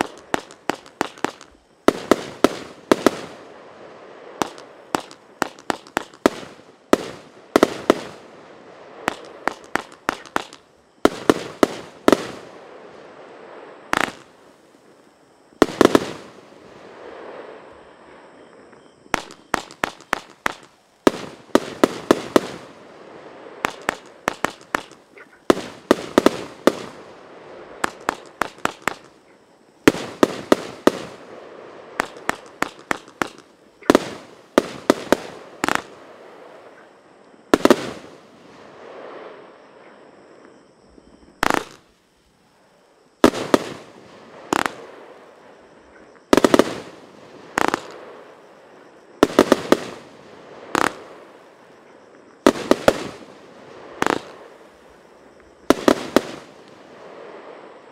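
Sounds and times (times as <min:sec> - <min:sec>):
fireworks bangs: 0:00.0 - 0:14.6, 0:15.5 - 0:18.2, 0:19.1 - 0:36.9, 0:37.5 - 0:39.5, 0:41.4 - 0:41.9, 0:43.2 - 0:57.9.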